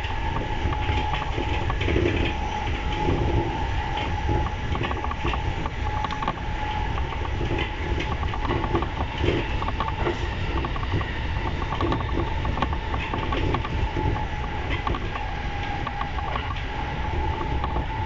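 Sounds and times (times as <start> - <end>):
clicks and knocks of train: 0.0 - 18.0
train wheels rumbling on rails: 0.0 - 18.0.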